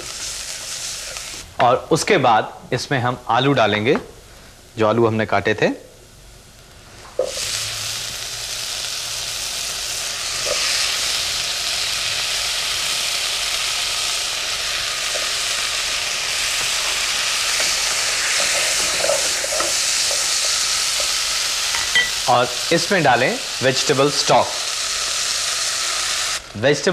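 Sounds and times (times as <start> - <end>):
potatoes sizzling in butter: 0.0 - 2.1, 7.2 - 26.9.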